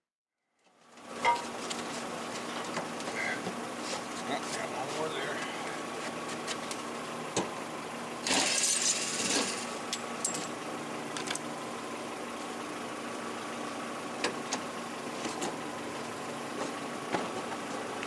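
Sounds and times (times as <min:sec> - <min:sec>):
steady engine-like hum: 0:00.7 - 0:18.0.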